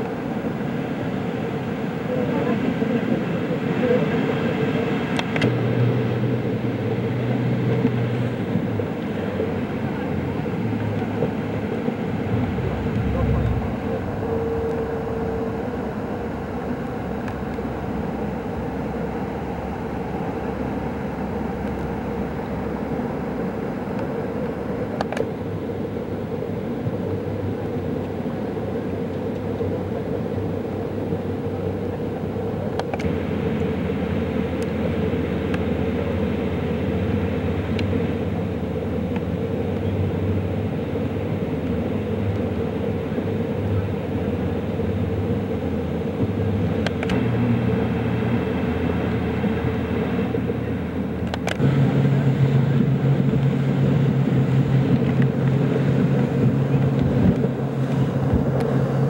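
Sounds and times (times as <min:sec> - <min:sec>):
motorboat engine running: 0:00.0 - 0:59.0.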